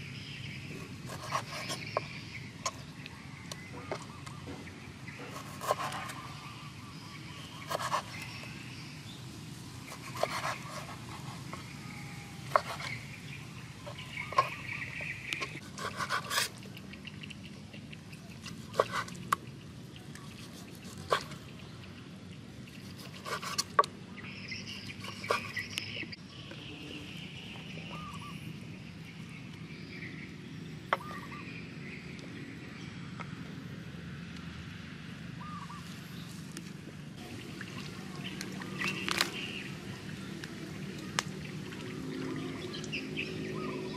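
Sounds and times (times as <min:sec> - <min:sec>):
birds calling: 0:00.0 - 0:33.5, 0:35.2 - 0:43.9.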